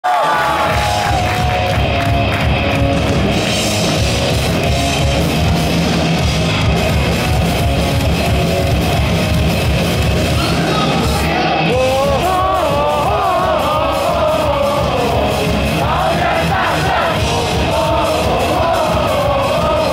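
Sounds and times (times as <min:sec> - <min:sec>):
rock band playing live: 0:00.1 - 0:19.9.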